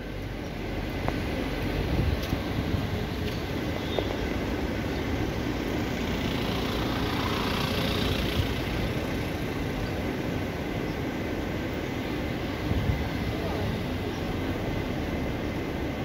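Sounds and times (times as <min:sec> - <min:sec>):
traffic rumble and hum: 0:00.0 - 0:16.0.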